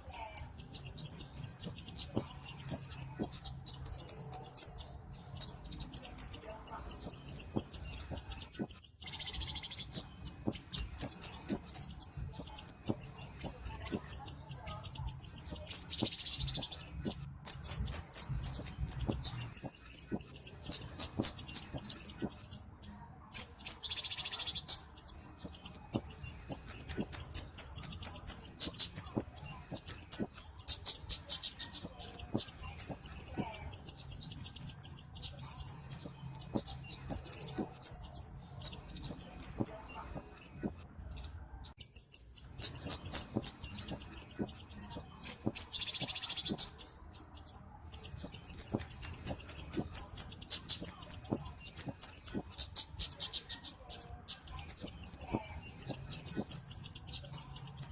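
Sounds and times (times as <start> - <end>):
bird chirping rapidly: 0.0 - 57.9.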